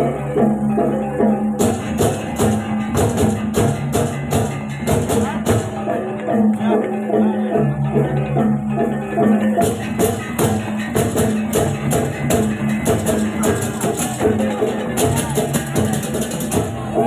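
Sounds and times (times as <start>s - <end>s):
loud music with steady beat: 0.0s - 17.0s.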